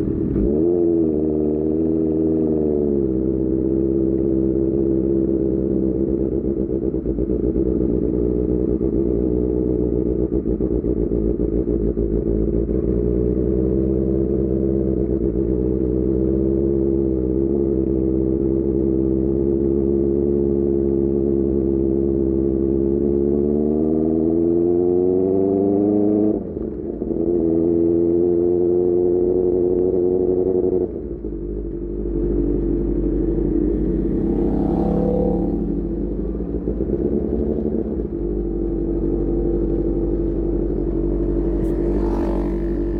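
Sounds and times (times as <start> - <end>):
motorcycle engine running: 0.0 - 24.0, 26.1 - 42.9.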